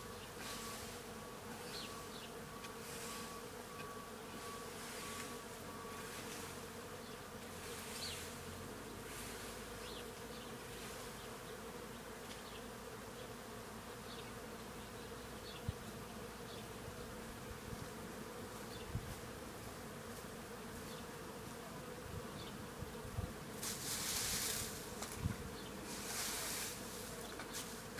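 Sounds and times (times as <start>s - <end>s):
bees buzzing: 0.0s - 27.9s.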